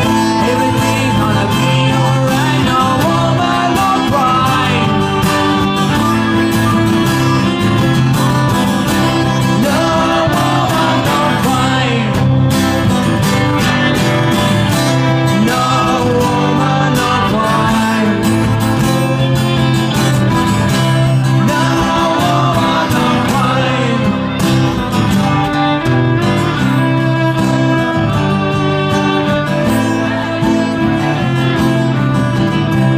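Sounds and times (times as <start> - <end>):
person singing: 0.0 - 7.9, 8.8 - 32.9
acoustic guitar strumming: 0.0 - 32.9.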